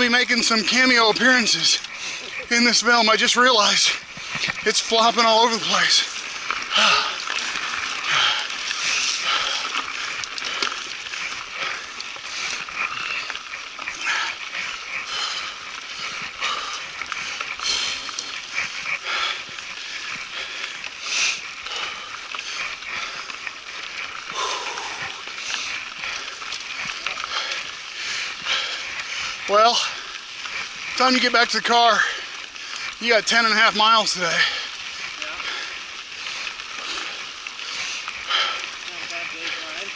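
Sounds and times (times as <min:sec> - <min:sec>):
bike clicks and rattles: 0:00.0 - 0:39.9
bike tyres crunching on gravel: 0:00.0 - 0:39.9.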